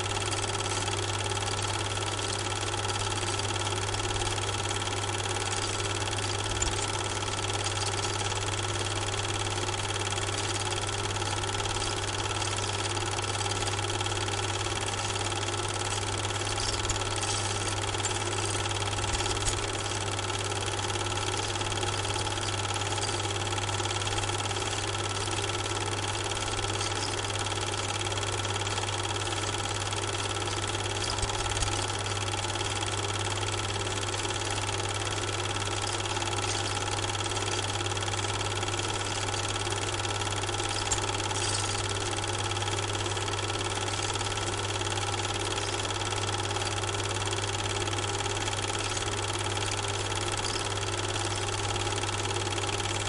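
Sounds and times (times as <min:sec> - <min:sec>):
mechanical motor drone: 0:00.0 - 0:53.0.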